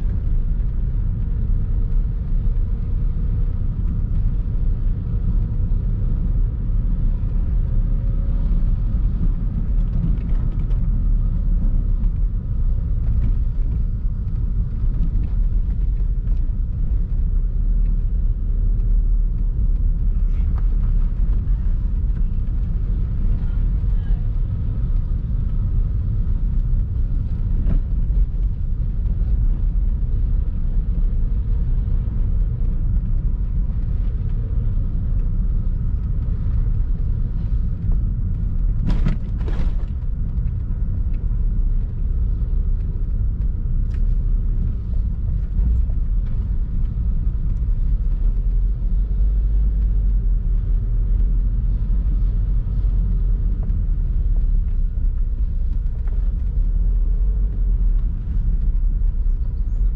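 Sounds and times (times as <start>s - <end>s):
car driving slowly: 0.0s - 59.9s.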